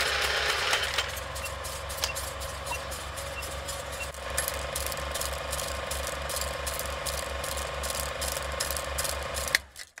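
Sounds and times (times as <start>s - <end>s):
film projector whirring and clattering: 0.0s - 10.0s.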